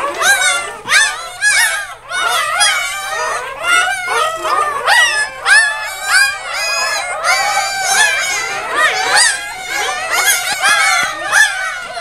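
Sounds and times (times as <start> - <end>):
puppies crying and squealing: 0.0 - 12.0.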